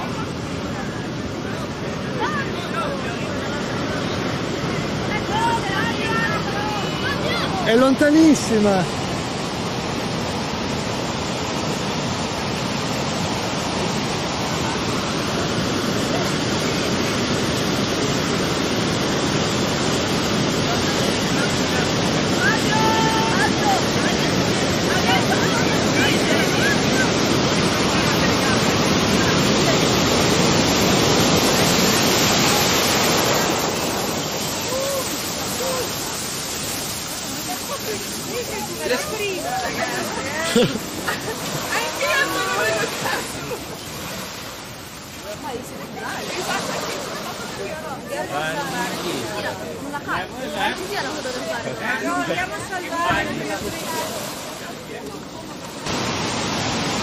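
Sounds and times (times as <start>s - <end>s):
surf rushing: 0.0s - 57.0s
surging water washing up beach: 0.0s - 57.0s.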